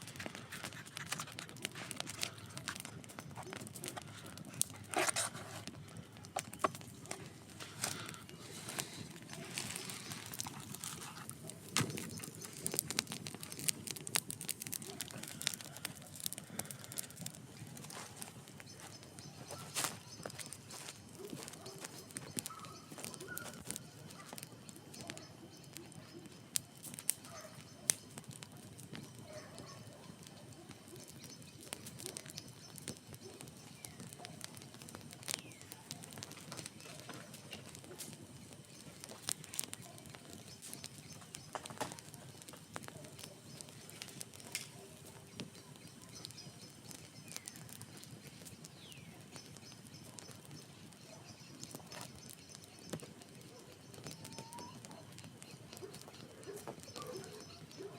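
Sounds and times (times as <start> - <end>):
wood fire crackling: 0.0 - 57.9
faint birds calling: 0.1 - 57.9.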